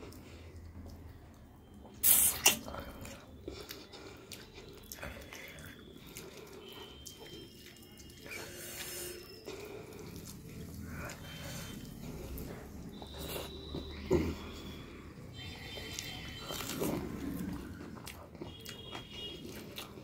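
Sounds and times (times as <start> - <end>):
mouth chewing food: 0.0 - 20.0.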